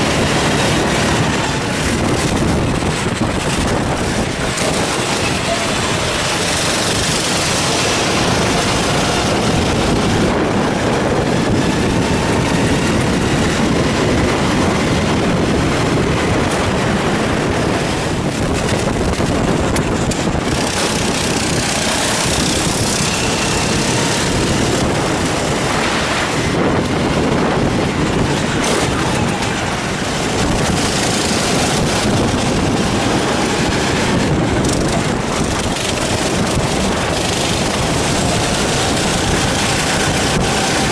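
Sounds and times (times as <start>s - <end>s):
kart engine running hard: 0.0s - 40.9s
wind and road noise: 0.0s - 40.9s.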